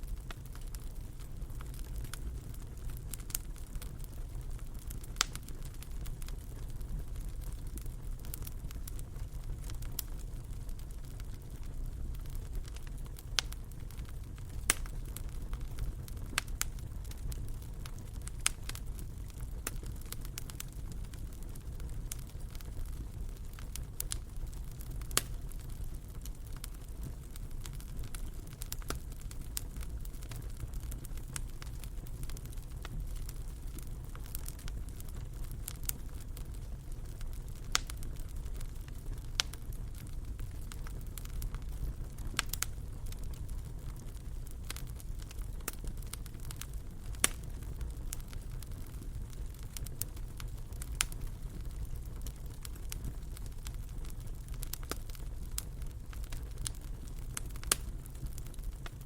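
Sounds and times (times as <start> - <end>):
fire crackling and popping: 0.0 - 59.0
wood fire rumbling: 0.0 - 59.0.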